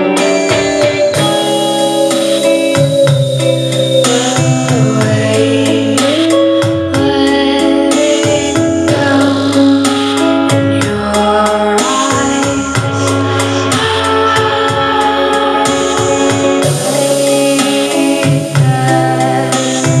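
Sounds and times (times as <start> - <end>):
electric guitar: 0.0 - 20.0
percussive beat: 0.0 - 20.0
synthesizer chords: 0.0 - 20.0
woman singing: 4.0 - 20.0.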